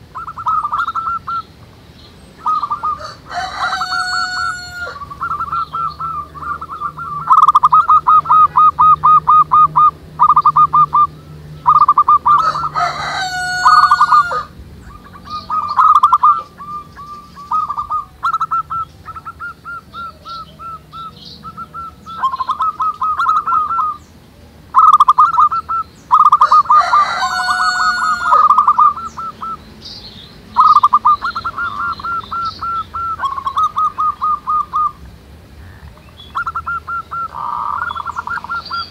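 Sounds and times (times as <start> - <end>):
doves cooing: 0.0 - 38.9
drawn-out bird calls: 0.0 - 38.9.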